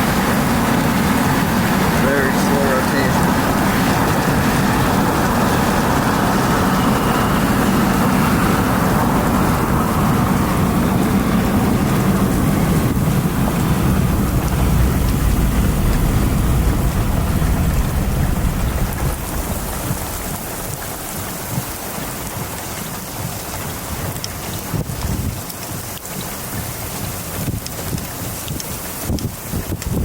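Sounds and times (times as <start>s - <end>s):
heavy rain: 0.0s - 30.0s
strong wind: 0.0s - 30.0s.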